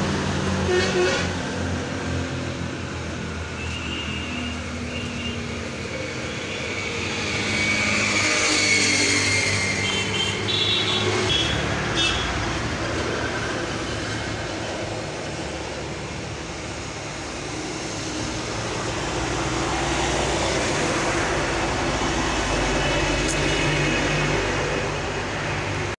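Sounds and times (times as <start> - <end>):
road noise: 0.0 - 26.0
vehicle engine rumble: 0.0 - 26.0.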